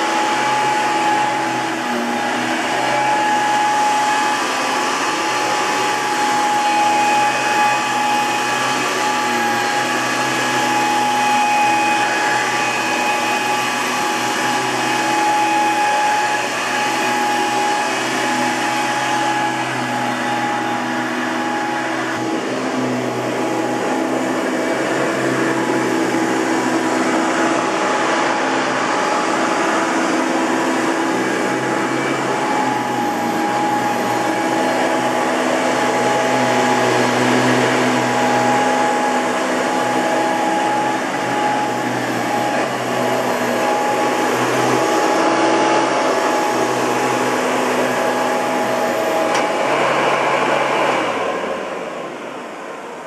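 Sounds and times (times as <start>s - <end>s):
vacuum cleaner running: 0.0s - 53.0s
vacuum motor winding down: 0.0s - 53.0s.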